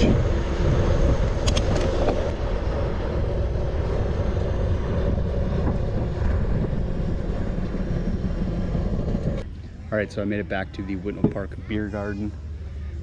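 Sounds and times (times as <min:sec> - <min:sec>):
wind rushing over microphone: 0:00.0 - 0:12.4
bicycle tyre and road noise: 0:00.0 - 0:13.0.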